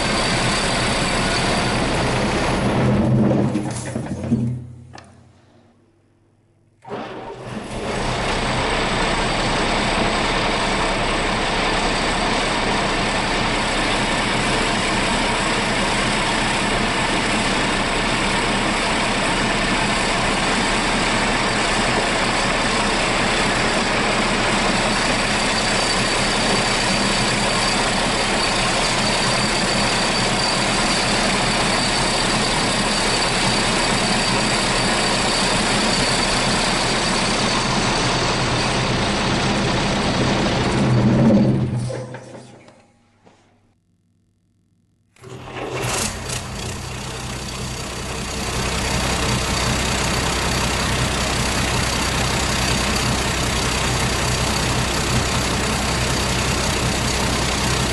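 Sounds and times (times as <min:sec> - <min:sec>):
diesel engine idling: 0:00.0 - 0:03.1, 0:07.9 - 0:41.0, 0:45.8 - 0:57.9.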